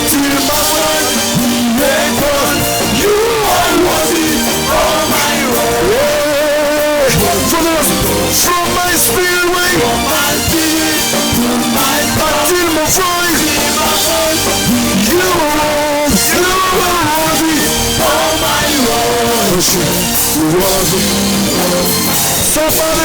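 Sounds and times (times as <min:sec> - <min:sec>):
drum kit: 0:00.0 - 0:23.0
person singing melody: 0:00.0 - 0:23.0
worship band music: 0:00.0 - 0:23.0.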